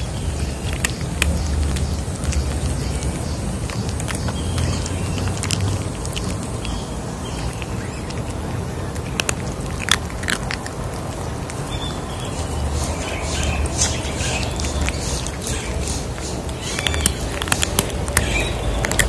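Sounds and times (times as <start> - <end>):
kittens crunching dry kibble: 0.0 - 19.0.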